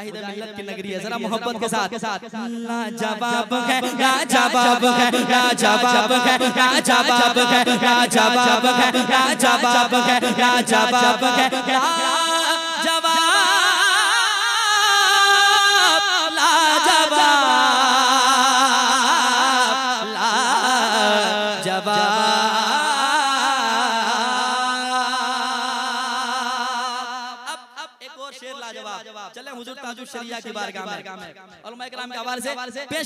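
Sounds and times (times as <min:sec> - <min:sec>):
man singing through a microphone: 0:00.0 - 0:33.0.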